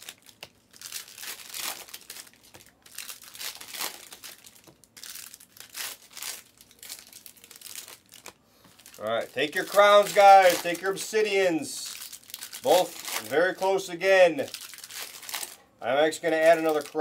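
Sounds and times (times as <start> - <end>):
card pack wrappers crinkling and tearing: 0.0 - 17.0.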